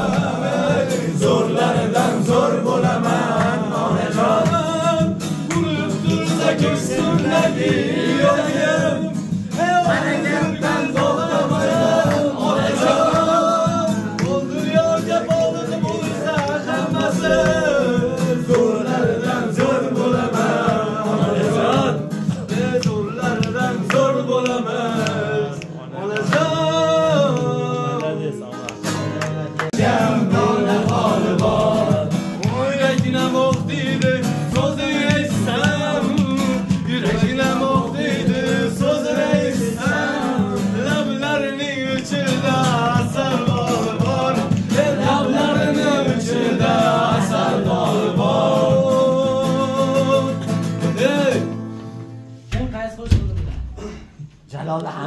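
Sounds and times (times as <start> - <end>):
man singing: 0.0 - 51.6
strummed acoustic guitar: 0.0 - 54.2.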